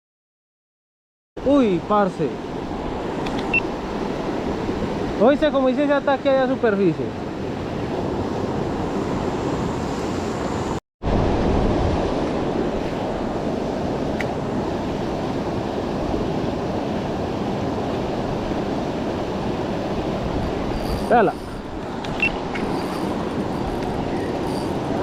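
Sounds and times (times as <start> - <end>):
river water rushing: 1.5 - 25.0.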